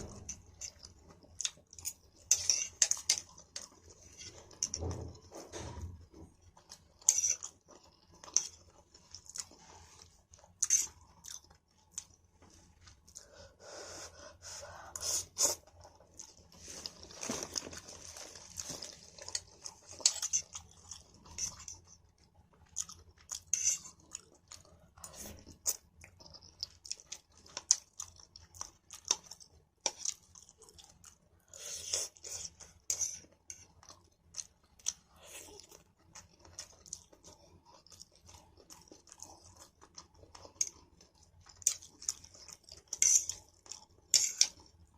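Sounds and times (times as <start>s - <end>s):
person chewing noodles: 0.0s - 5.3s, 6.3s - 44.9s.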